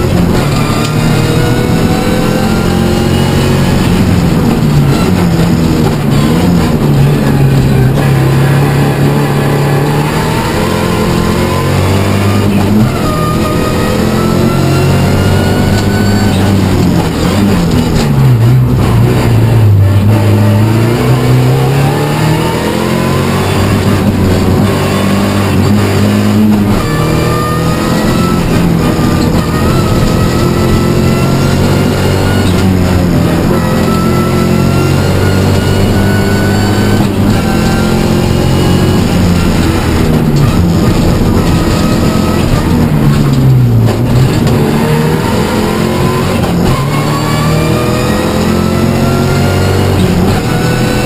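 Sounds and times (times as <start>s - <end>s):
rally car engine revving: 0.0s - 51.0s.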